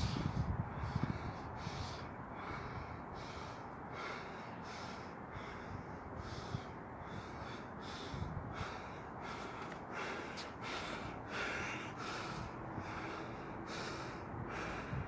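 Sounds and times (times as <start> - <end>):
man panting: 0.0 - 15.0.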